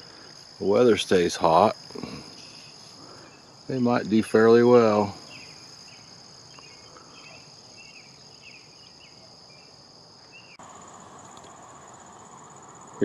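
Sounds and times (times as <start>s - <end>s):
insect chirps: 0.0s - 13.0s
insects droning: 0.0s - 13.0s.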